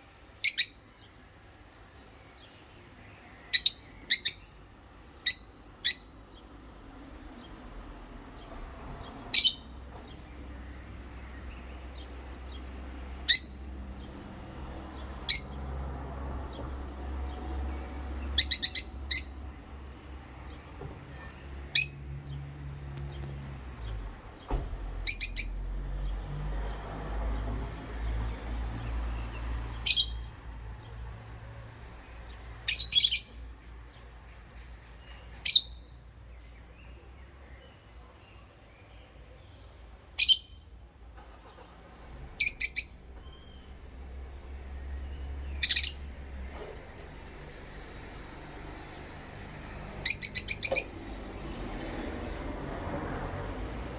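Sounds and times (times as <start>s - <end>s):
lovebirds chirping: 0.0s - 40.7s, 42.4s - 52.8s.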